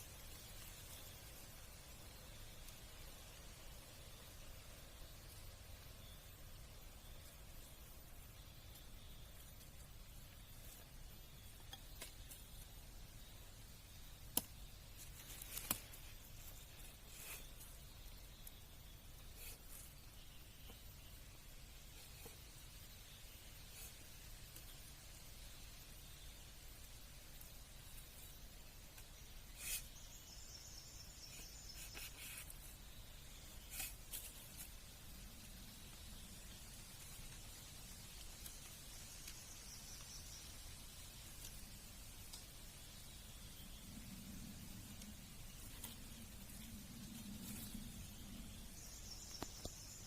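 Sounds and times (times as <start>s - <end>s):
high insect buzz: 0.0s - 43.8s.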